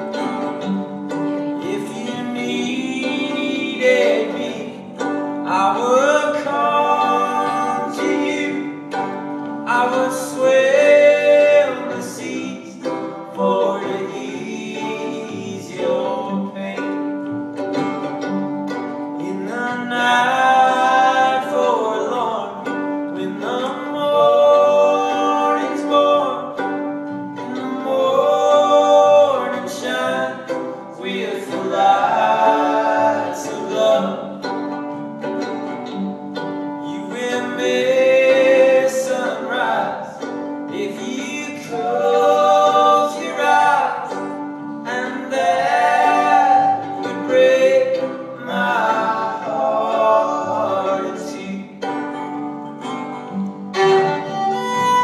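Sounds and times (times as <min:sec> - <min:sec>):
double bass: 0:00.0 - 0:55.0
person singing: 0:00.0 - 0:55.0
violin: 0:00.0 - 0:55.0.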